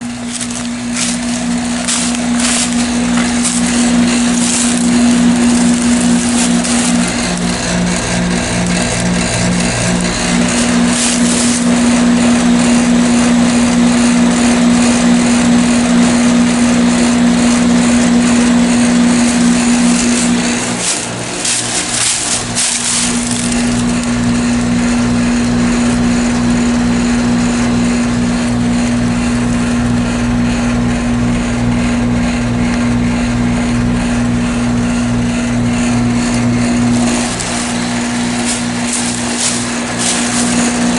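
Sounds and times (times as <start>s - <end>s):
air conditioner compressor hum: 0.0s - 40.9s
condenser fan whoosh: 0.0s - 40.9s.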